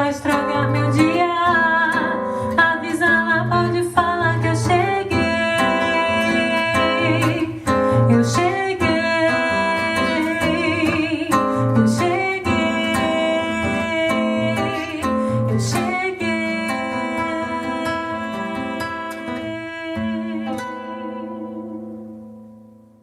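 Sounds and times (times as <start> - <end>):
person singing: 0.0 - 22.2
acoustic guitar strumming: 0.0 - 23.0.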